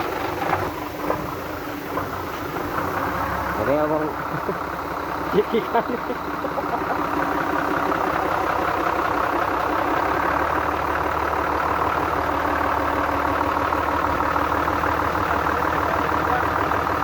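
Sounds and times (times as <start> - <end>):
engine idling with ticking clatter: 0.0 - 17.0.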